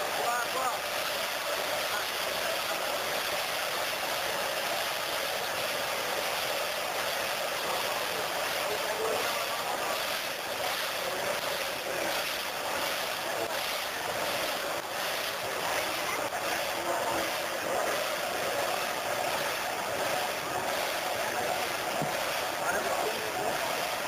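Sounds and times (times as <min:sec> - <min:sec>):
large crowd din: 0:00.0 - 0:24.0.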